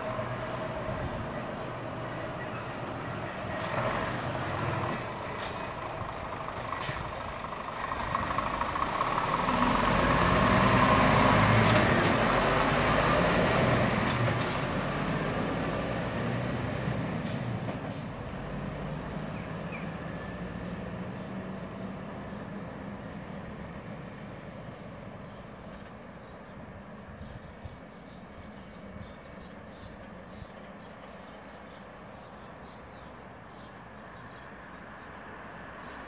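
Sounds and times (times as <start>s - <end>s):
lorry diesel engine driving past: 0.0s - 36.0s.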